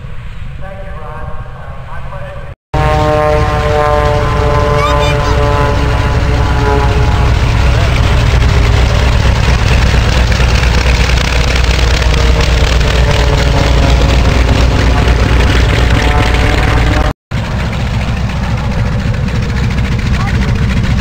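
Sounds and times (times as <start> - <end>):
distant radial engine: 0.0 - 21.0
radial piston engine rumbling: 3.6 - 21.0.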